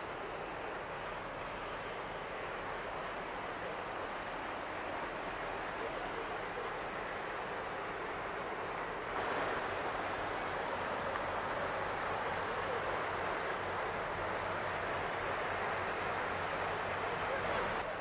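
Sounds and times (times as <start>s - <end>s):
harbour water: 0.0s - 18.0s.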